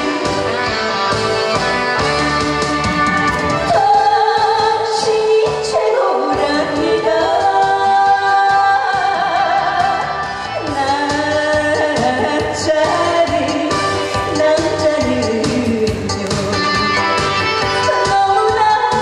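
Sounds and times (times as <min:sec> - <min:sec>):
backing track with steady beat: 0:00.0 - 0:19.0
woman singing into microphone: 0:03.4 - 0:19.0.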